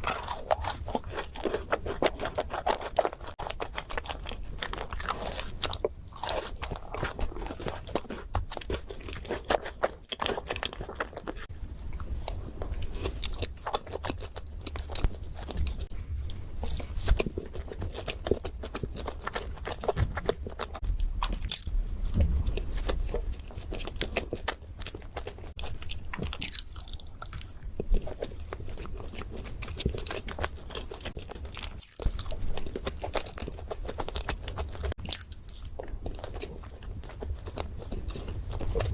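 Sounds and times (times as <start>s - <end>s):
crunchy eating and chewing: 0.0s - 38.9s.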